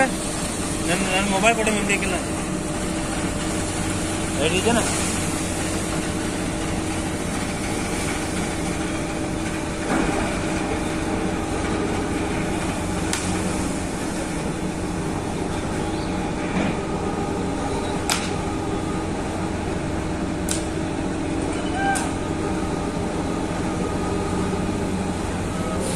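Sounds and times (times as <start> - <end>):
engines and machinery drone: 0.0 - 25.9.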